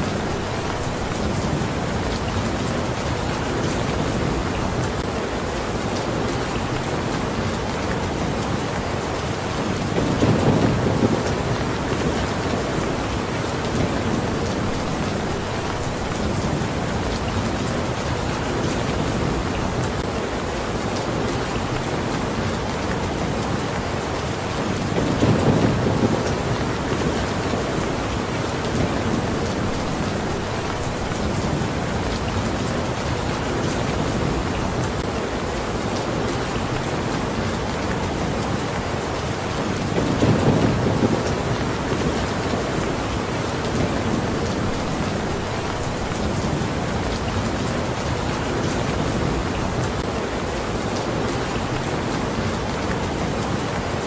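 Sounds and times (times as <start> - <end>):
dense rain falling: 0.0 - 54.0.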